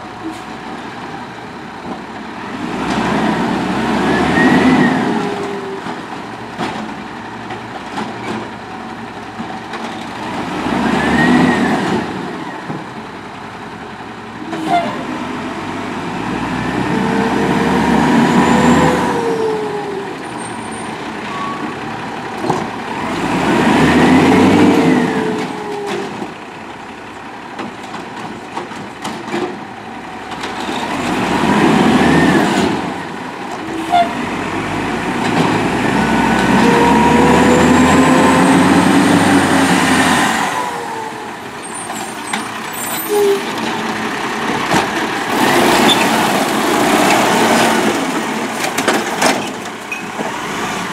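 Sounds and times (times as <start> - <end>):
diesel engine revving: 2.1 - 6.5, 10.1 - 12.5, 13.2 - 27.5, 29.7 - 50.9.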